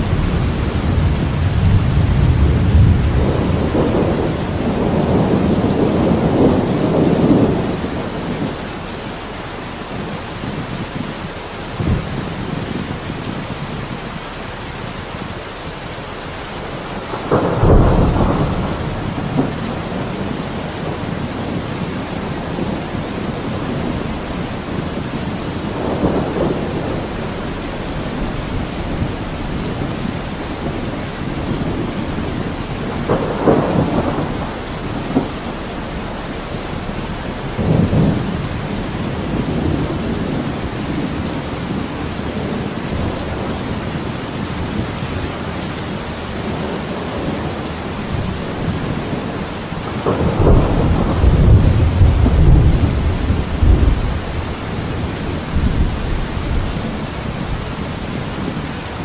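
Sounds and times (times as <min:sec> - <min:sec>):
thunder rolling: 0:00.0 - 0:09.2, 0:16.4 - 0:45.8, 0:46.4 - 0:58.6
steady rain: 0:00.0 - 0:59.0.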